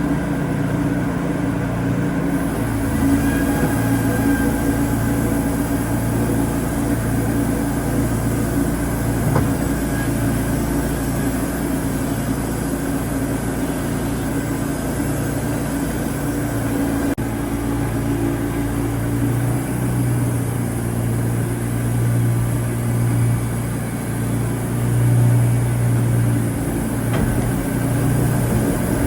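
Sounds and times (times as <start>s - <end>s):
sawmill engine hum: 0.0s - 29.0s.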